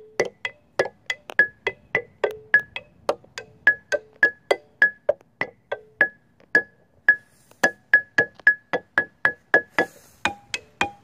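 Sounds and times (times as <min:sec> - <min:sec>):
xylophone struck with mallets: 0:00.0 - 0:11.0.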